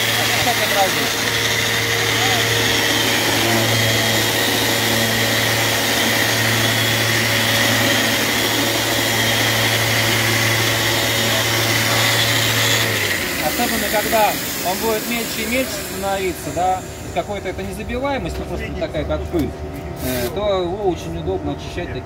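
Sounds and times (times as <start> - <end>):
orbital sander running: 0.0 - 18.1.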